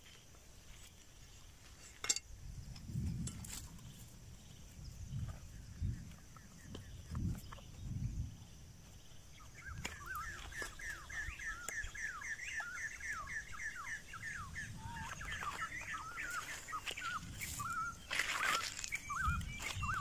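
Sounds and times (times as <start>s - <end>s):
bird chirping: 3.8s - 20.0s.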